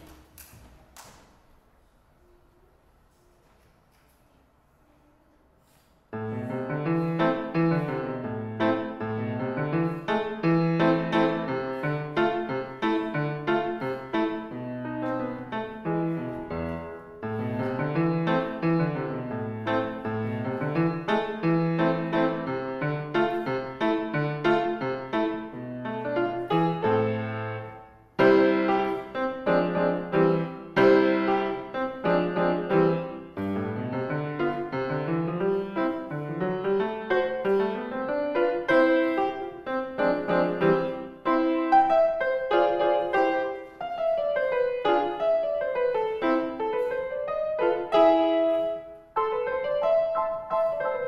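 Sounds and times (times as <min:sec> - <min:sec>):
solo grand piano: 0:00.0 - 0:51.0.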